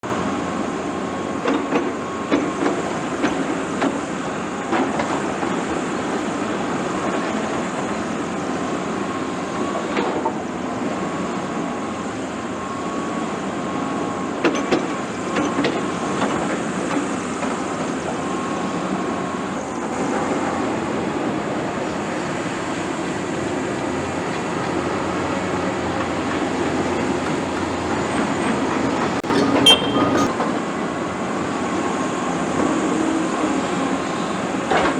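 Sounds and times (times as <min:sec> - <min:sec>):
excavator running with whine: 0:00.0 - 0:34.9.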